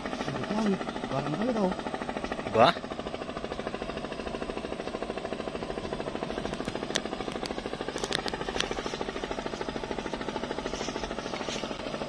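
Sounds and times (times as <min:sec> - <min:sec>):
fast mechanical chugging: 0:00.0 - 0:12.0.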